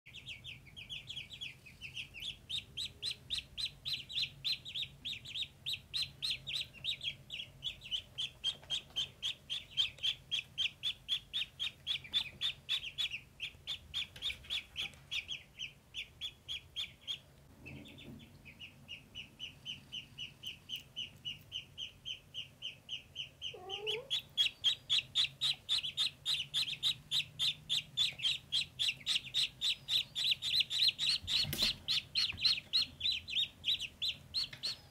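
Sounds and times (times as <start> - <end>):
ducklings peeping: 0.1 - 34.9.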